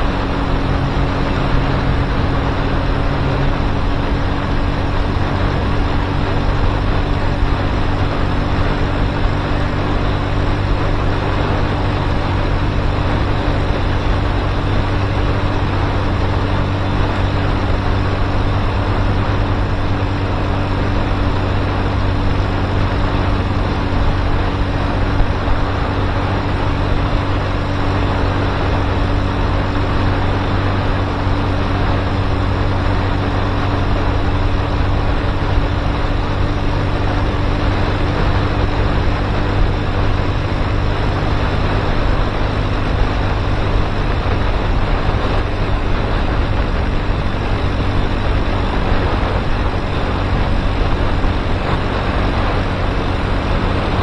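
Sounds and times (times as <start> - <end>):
motorcycle engine hum: 0.0 - 54.0
rush of noise: 0.0 - 54.0.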